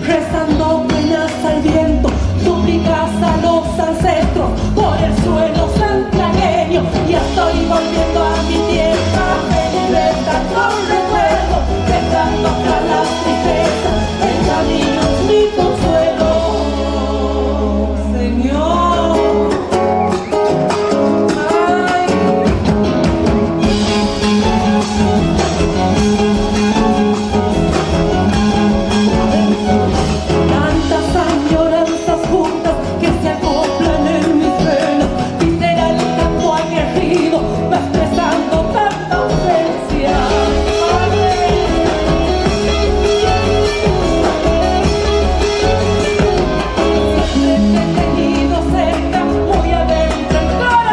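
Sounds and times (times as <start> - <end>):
band with steady bass line: 0.0 - 50.9
person singing: 0.0 - 50.9.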